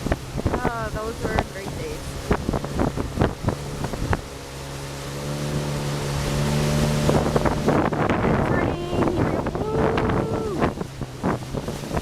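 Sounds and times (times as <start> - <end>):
speedboat engine humming: 0.0 - 12.0
wind buffeting microphone: 0.0 - 12.0.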